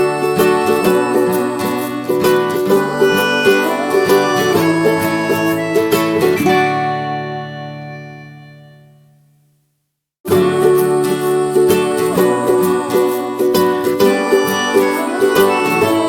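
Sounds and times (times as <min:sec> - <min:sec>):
plucked string instrumental music: 0:00.0 - 0:09.4, 0:10.3 - 0:16.0.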